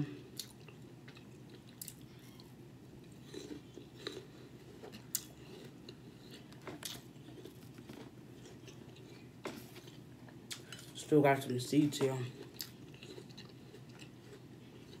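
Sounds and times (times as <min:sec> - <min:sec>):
person chewing food: 0:00.1 - 0:11.0, 0:12.2 - 0:15.0.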